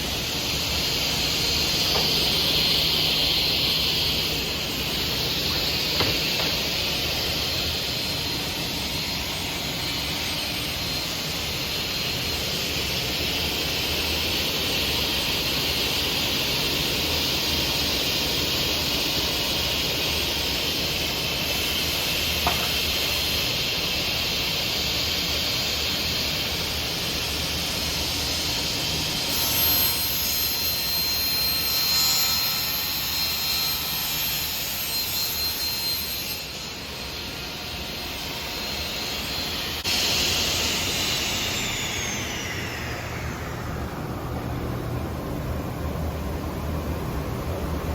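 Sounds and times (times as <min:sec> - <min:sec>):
table saw running: 0:00.0 - 0:23.9, 0:24.8 - 0:45.0.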